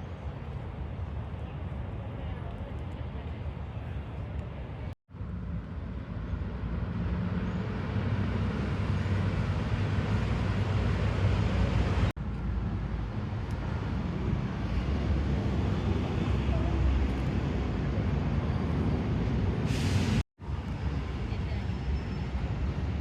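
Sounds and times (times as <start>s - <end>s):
outdoor background rumble: 0.0s - 23.0s.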